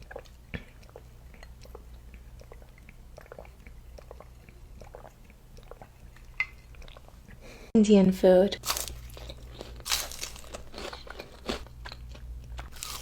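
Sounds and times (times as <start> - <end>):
person chewing food: 0.0 - 7.6, 8.6 - 13.0.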